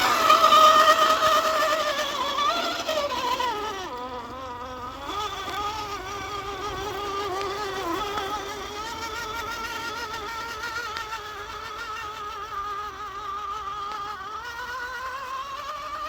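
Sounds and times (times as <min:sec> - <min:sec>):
electric motor and drivetrain whining: 0:00.0 - 0:16.0.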